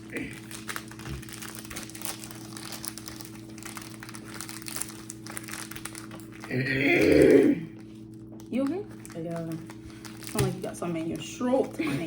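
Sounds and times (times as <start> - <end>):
plastic wrapper crinkling: 0.0 - 6.7, 7.7 - 12.0.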